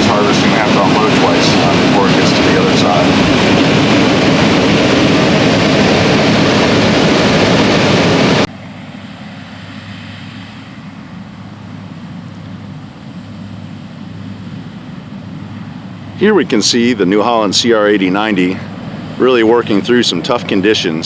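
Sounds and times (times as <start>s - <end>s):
combine harvester running: 0.0s - 21.0s
low machine hum: 0.0s - 21.0s.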